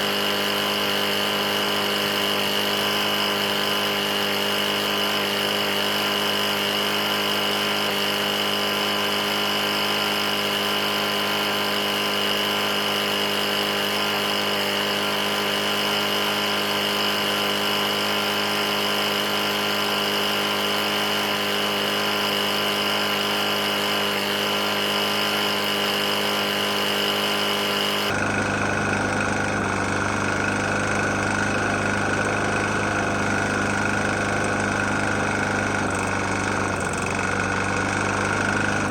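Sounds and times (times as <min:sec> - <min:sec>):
knocking mower engine running: 0:00.0 - 0:38.9.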